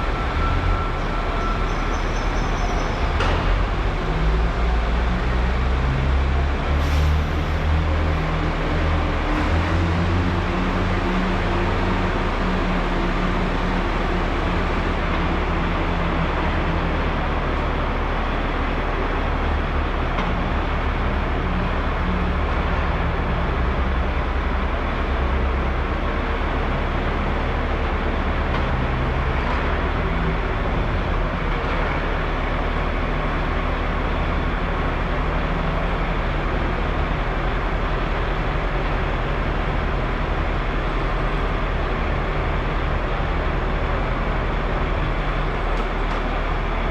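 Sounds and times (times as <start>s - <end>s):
heavy machinery engine hum: 0.0s - 46.9s.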